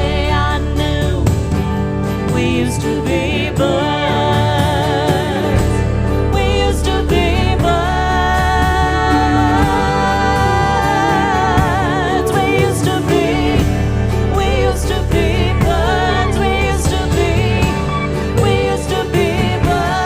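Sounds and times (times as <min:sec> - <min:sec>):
live band instrumental music: 0:00.0 - 0:20.0.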